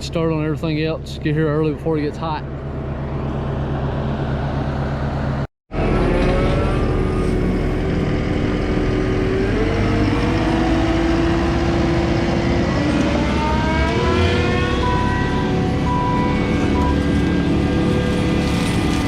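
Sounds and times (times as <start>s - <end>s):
heavy equipment running: 2.4s - 19.0s
whine changing pitch: 2.7s - 19.0s.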